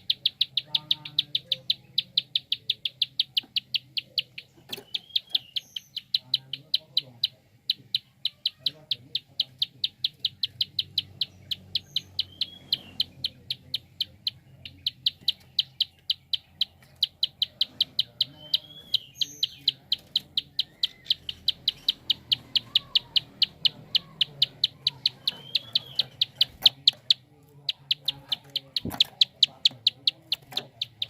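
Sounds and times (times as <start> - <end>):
bird rapid clicking call: 0.0 - 31.0
faint chirps of other birds: 0.0 - 31.0.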